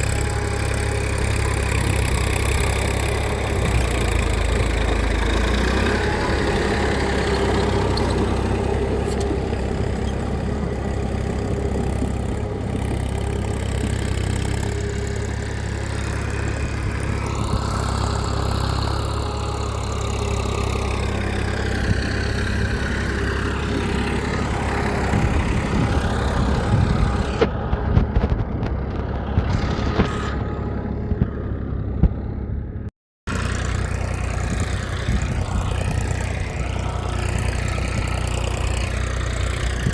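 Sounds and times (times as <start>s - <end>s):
mini tractor engine idling: 0.0s - 39.9s.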